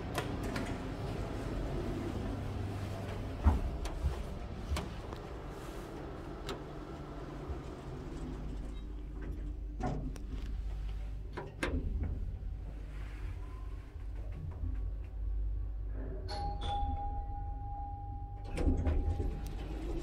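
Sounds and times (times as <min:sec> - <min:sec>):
elevator doors sliding: 0:00.0 - 0:15.0, 0:18.5 - 0:20.0
steady low hum: 0:00.0 - 0:16.6.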